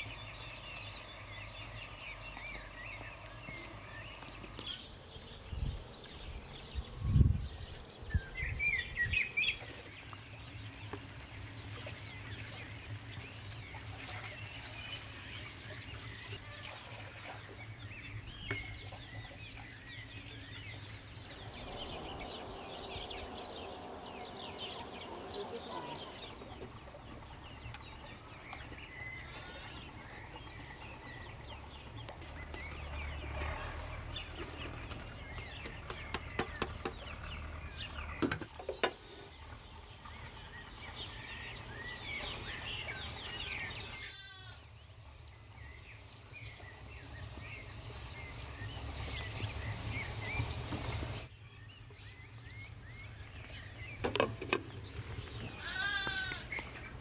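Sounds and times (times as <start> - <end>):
small birds chirping: 0.0 - 16.6, 17.2 - 57.0.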